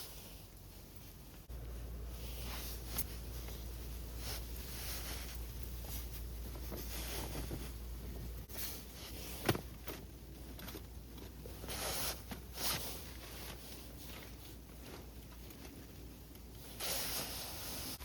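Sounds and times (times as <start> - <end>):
rustling handling: 0.0 - 18.0.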